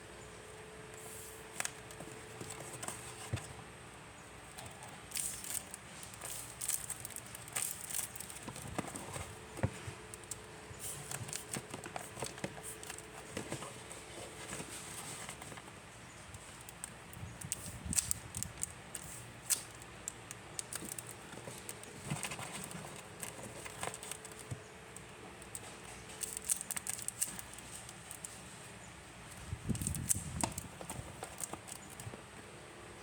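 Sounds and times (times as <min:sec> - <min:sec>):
plastic packaging rustling: 0:01.0 - 0:03.6, 0:04.4 - 0:28.6, 0:29.3 - 0:32.3.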